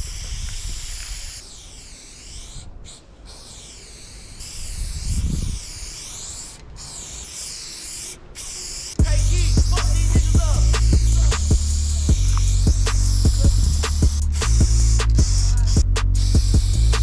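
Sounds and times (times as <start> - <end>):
spray paint can hissing: 0.0 - 17.0.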